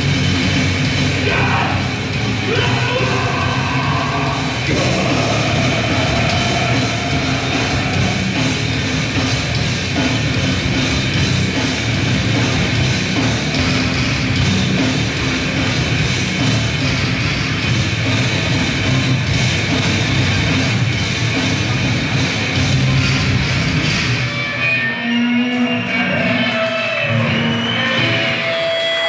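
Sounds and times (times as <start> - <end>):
fast drumming: 0.0 - 24.2
bass guitar: 0.0 - 29.0
distorted guitars: 0.0 - 29.0.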